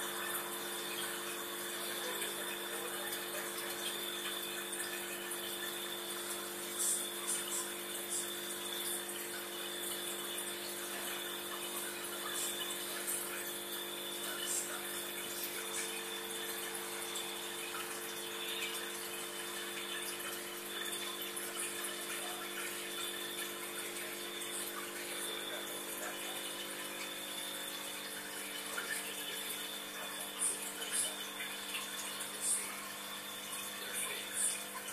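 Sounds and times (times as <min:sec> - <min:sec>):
aquarium pump hum: 0:00.0 - 0:34.9
bubbling splashing water: 0:00.0 - 0:34.9.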